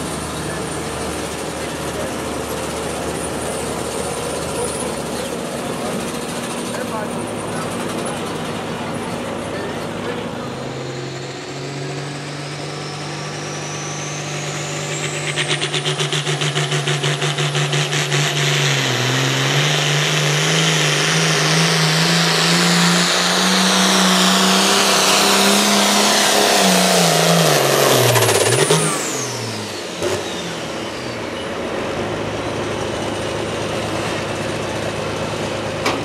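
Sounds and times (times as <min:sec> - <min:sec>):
tractor engine under load: 0:00.0 - 0:36.0.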